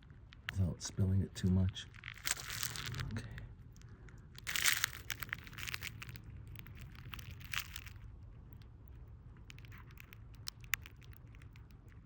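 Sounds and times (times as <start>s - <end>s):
crinkly rustles: 0.0s - 12.0s.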